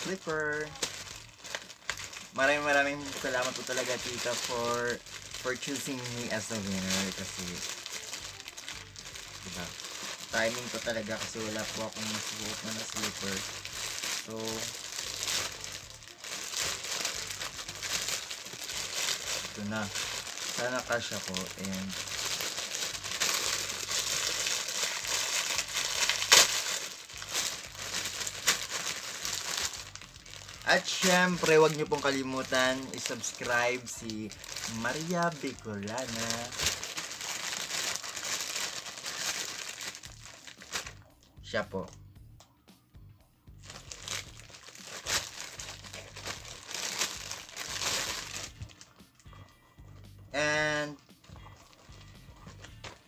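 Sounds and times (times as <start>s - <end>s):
packaging crinkling: 0.0s - 41.0s, 43.7s - 49.0s, 51.6s - 53.0s.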